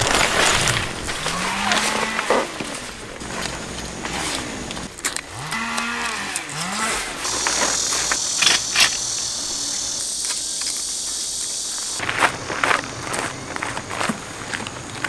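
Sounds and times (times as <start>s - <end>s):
cicadas shrilling: 0.0s - 15.0s.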